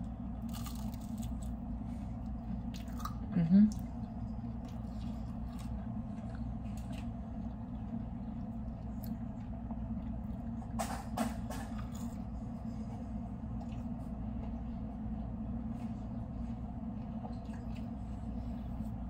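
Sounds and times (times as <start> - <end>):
chewing crackles: 0.0 - 10.7, 11.7 - 14.6, 16.9 - 18.7
low background hum: 0.0 - 19.0.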